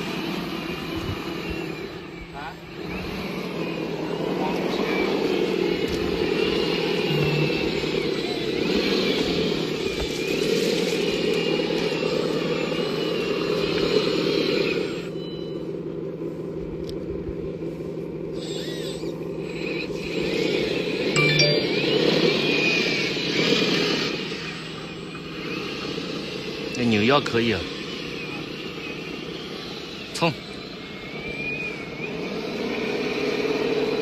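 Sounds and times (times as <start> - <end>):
electric motors humming: 0.0 - 34.0
high motor whine: 0.0 - 34.0.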